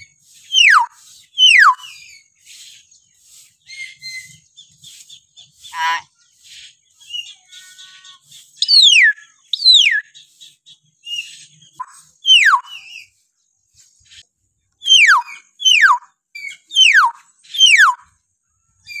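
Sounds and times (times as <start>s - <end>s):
myna bird whistling calls: 0.0s - 13.2s, 14.8s - 18.2s, 18.8s - 19.0s
soft bird chirps: 0.0s - 19.0s.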